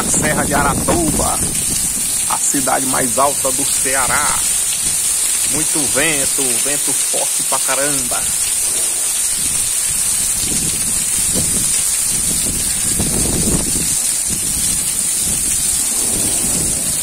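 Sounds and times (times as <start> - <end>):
wind rumbling on microphone: 0.0 - 6.4, 8.1 - 17.0
heavy rain pouring: 0.0 - 17.0.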